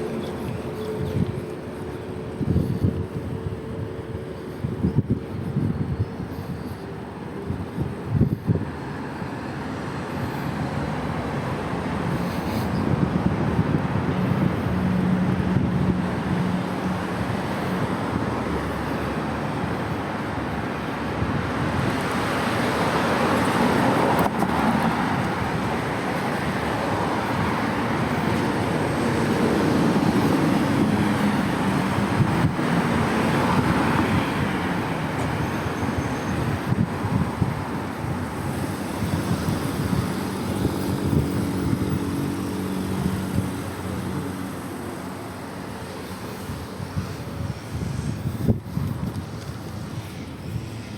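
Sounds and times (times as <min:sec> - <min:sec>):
cars passing by: 0:00.0 - 0:50.9.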